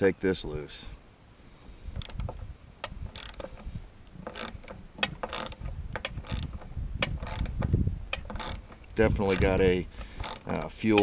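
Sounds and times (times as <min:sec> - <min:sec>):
hand tools clicking on metal: 0:02.0 - 0:11.0.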